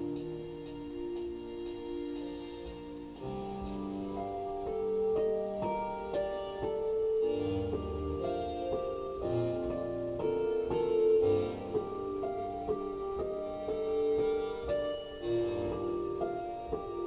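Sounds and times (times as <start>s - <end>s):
slow keyboard melody: 0.0s - 17.0s.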